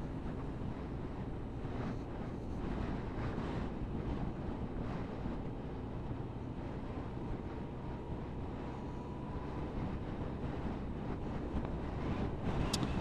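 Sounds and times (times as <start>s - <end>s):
wind rush over microphone: 0.0s - 13.0s.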